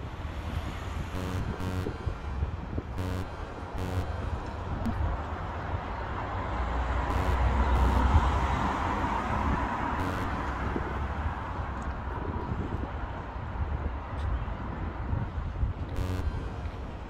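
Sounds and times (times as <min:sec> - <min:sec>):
traffic noise: 0:00.0 - 0:17.0
wind on microphone: 0:00.0 - 0:17.0.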